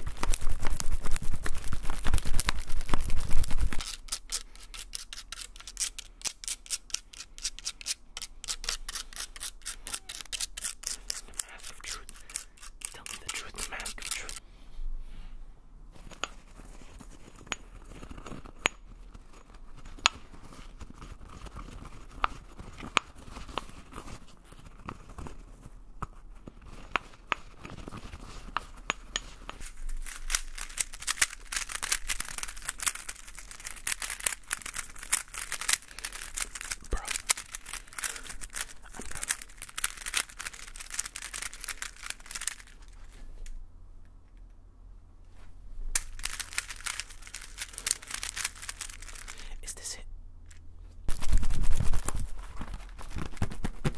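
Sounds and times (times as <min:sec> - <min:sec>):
handling clicks and crinkles: 0:00.0 - 0:14.4, 0:16.0 - 0:44.6, 0:45.9 - 0:49.8, 0:50.4 - 0:53.9.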